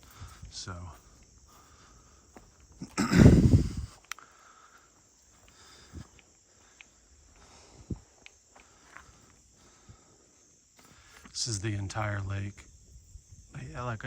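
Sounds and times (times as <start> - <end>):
insect chorus with crickets: 0.0 - 14.0.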